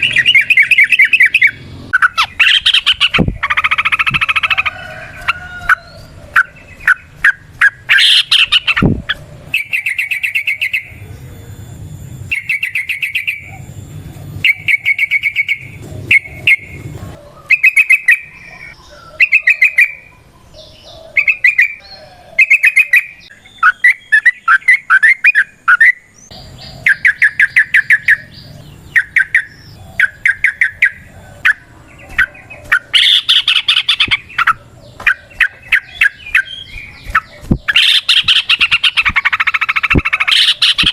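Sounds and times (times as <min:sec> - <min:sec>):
bulbul singing: 0:00.0 - 0:40.9.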